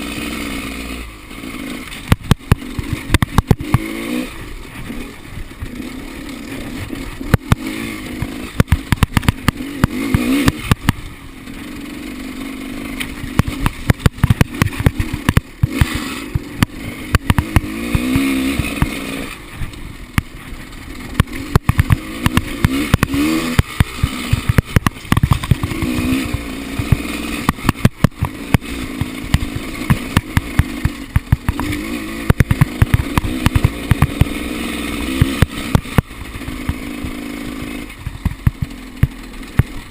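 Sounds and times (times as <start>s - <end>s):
dirt bike engine revving: 0.0s - 39.9s
sharp knocks and clatter: 1.9s - 4.0s, 6.8s - 11.1s, 13.0s - 20.4s, 21.0s - 39.9s.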